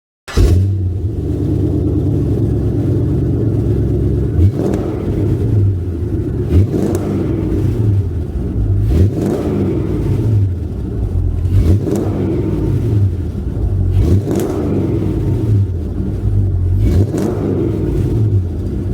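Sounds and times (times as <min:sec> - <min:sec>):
car exhaust idling with throttle blips: 0:00.3 - 0:18.9.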